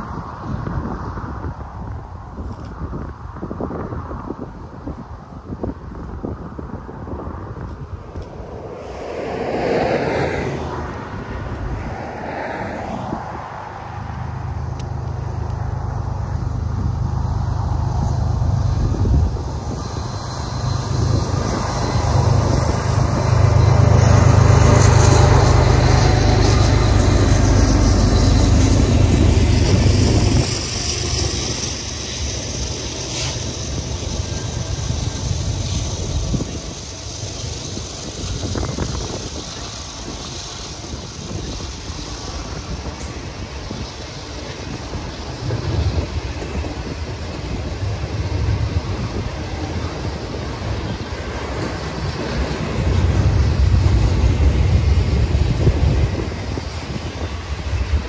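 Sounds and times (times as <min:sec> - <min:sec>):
diesel locomotive engine rumble: 0:00.0 - 0:58.0
train wheels hissing on rails: 0:00.0 - 0:58.0.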